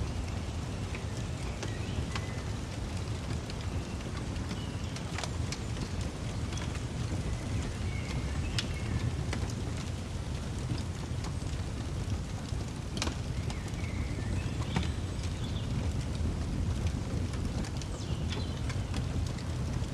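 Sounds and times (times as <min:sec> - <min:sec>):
fireplace fire crackling: 0:00.0 - 0:19.9.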